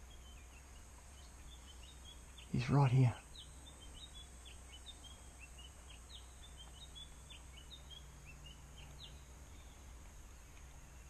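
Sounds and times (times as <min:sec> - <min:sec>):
low steady background noise: 0:00.0 - 0:11.0
small birds chirping and whistling: 0:00.0 - 0:11.0.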